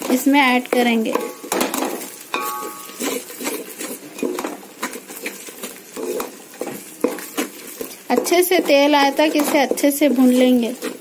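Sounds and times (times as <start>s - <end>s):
spatula scraping a metal pot: 0.0s - 11.0s.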